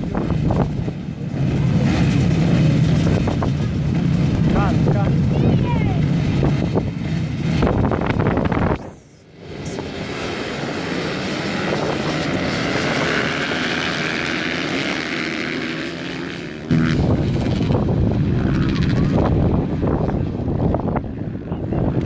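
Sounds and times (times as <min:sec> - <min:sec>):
motorcycle engines at high revs: 0:00.0 - 0:22.0.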